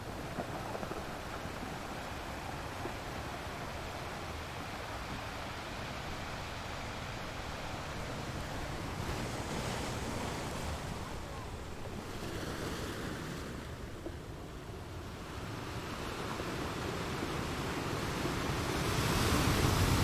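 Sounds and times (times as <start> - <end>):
sea waves washing onto shore: 0.0 - 20.0.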